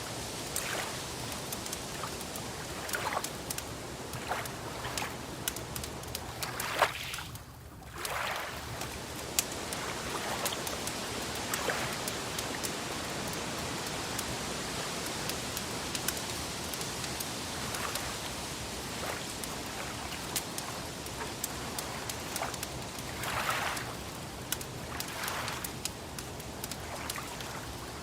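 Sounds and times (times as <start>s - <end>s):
steady fire hiss: 0.0s - 28.0s
wood fire crackling: 0.0s - 28.0s.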